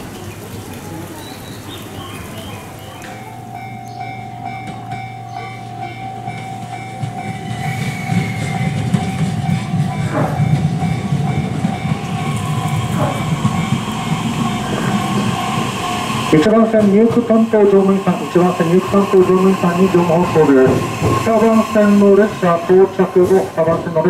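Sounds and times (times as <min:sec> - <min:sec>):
electric train rumble: 0:01.8 - 0:24.0
steady high tone: 0:03.2 - 0:24.0.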